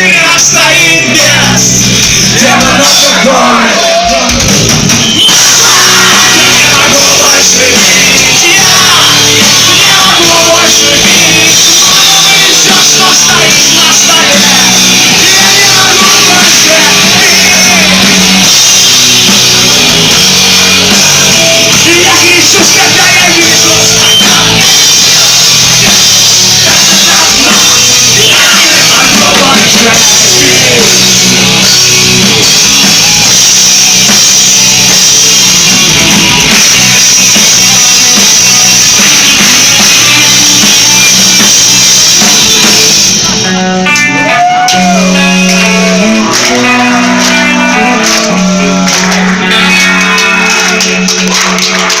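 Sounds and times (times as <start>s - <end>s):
rock band playing: 0.0s - 52.0s
ringing bending guitar notes: 5.3s - 51.1s.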